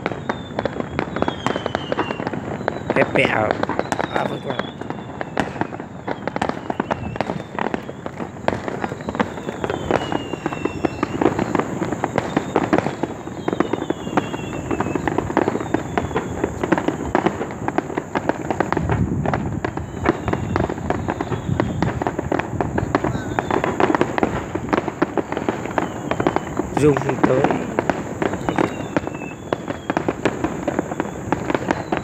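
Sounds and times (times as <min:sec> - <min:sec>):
falling whistles of fireworks: 0:00.0 - 0:32.0
fireworks bangs and crackles: 0:00.0 - 0:32.0.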